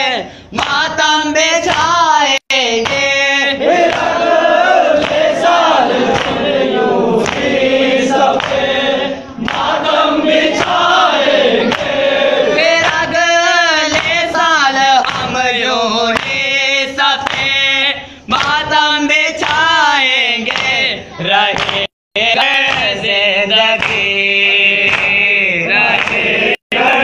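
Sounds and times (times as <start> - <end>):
men chanting in unison: 0.0 - 27.0.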